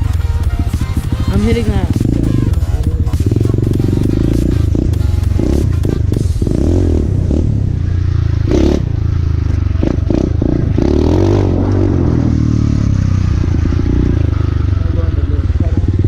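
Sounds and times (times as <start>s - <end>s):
bike clattering and scraping: 0.0s - 14.9s
motorcycle engine revving: 0.0s - 16.0s.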